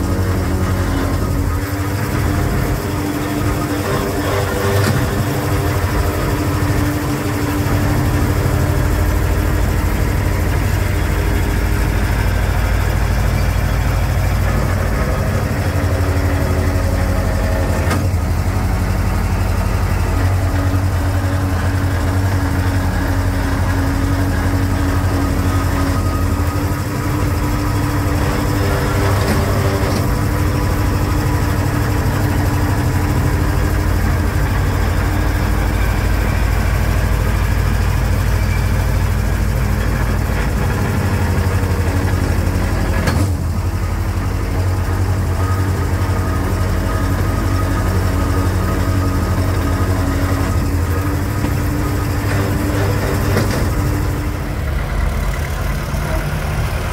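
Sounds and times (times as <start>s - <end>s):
excavator engine running: 0.0s - 56.9s.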